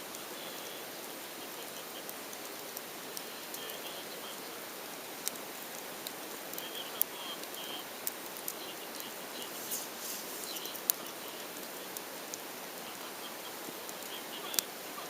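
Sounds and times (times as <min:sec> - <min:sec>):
campfire crackling and popping: 0:00.0 - 0:15.0
steady hiss: 0:00.0 - 0:15.0.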